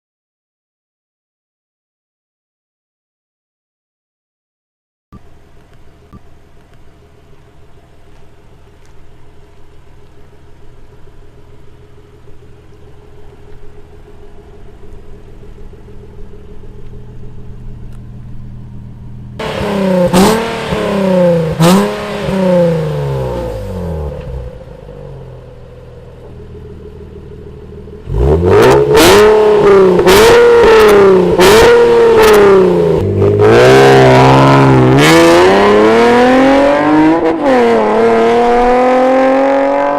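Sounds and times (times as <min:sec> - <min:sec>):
car engine idling and revving: 0:05.2 - 0:39.9.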